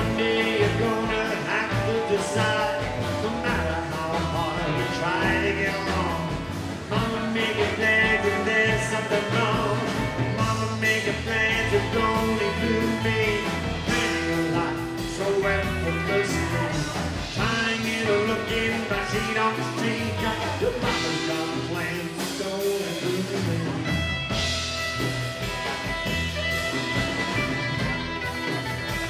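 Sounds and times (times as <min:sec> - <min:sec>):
person singing: 0:00.0 - 0:24.5
bass guitar: 0:00.0 - 0:29.0
drum kit: 0:00.0 - 0:29.0
strummed acoustic guitar: 0:00.0 - 0:29.0.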